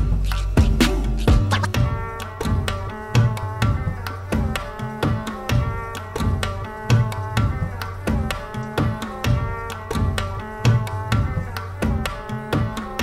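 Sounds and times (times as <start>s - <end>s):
background music with drum beat: 0.0s - 13.0s.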